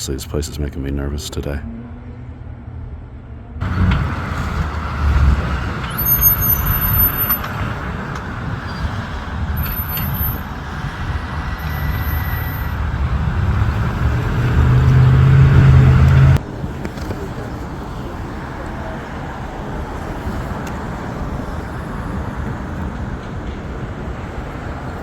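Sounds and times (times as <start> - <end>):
road noise: 0.0 - 25.0
bus engine running: 1.4 - 25.0.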